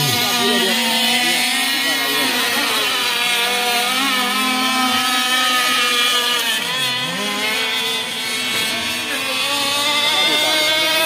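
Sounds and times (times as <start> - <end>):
model boat motors buzzing: 0.0 - 11.0.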